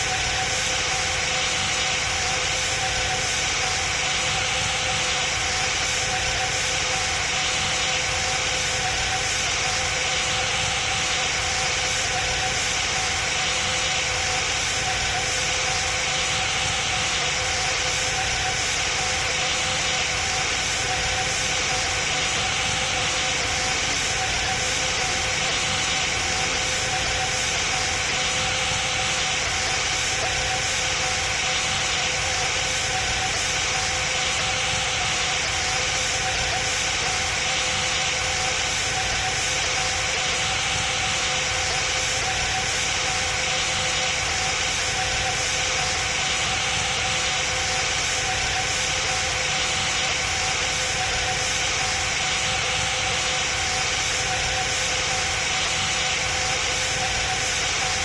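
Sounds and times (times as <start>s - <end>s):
airplane cabin jet engine drone: 0.0s - 58.0s.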